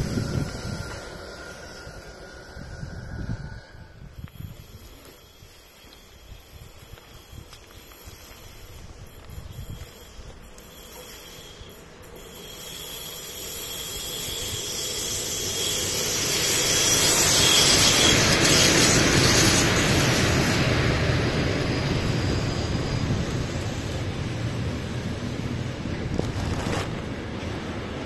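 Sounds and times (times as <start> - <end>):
freight train passing: 0.0 - 10.0, 10.8 - 28.0
rush of wheels on rail: 0.0 - 28.0.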